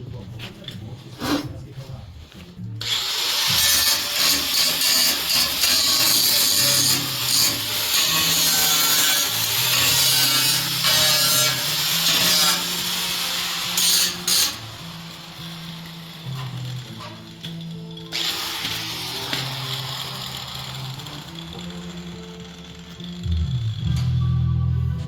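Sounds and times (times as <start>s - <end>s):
power tool grinding steel: 2.8s - 24.2s.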